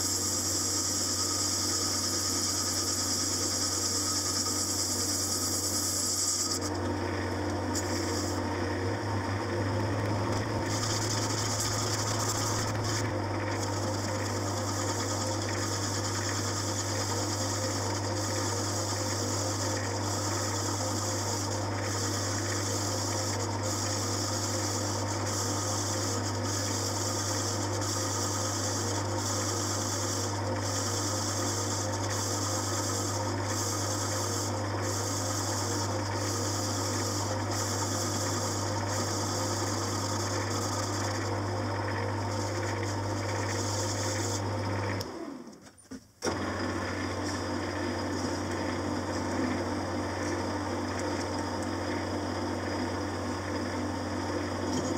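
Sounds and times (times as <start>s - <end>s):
cutting tool hissing on metal: 0.0s - 44.6s
lathe motor hum: 0.0s - 45.6s, 46.2s - 54.9s.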